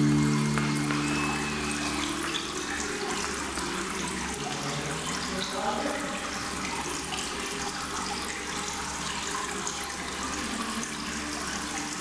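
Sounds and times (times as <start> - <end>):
water running in aquarium: 0.0 - 12.0.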